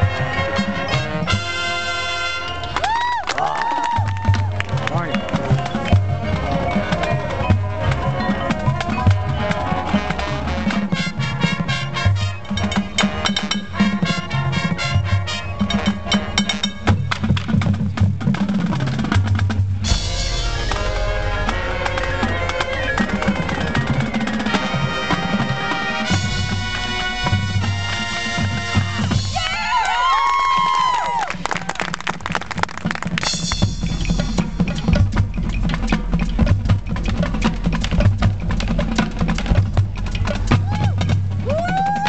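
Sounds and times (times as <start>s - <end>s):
marching band loud held chords: 0.0s - 2.9s, 4.0s - 29.8s, 31.3s - 42.0s
marching drums and percussion: 0.0s - 42.0s.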